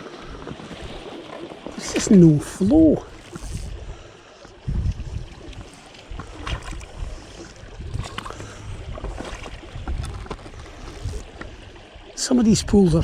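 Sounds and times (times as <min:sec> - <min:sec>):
faint water wash: 0:00.0 - 0:13.0
wind rumbling on microphone: 0:01.7 - 0:13.0.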